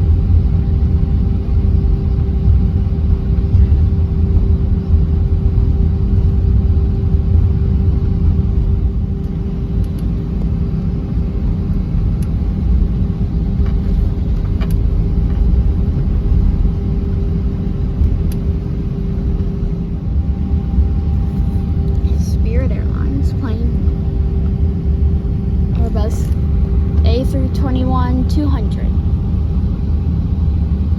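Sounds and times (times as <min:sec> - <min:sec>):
aircraft engines and wheels rumbling: 0:00.0 - 0:30.9
steady hum tone: 0:00.0 - 0:30.9.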